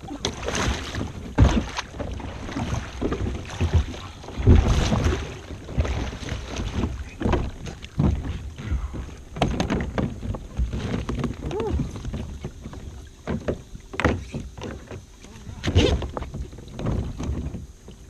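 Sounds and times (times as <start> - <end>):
water splashing: 0.0 - 18.0
thumps against kayak hull: 0.1 - 18.0.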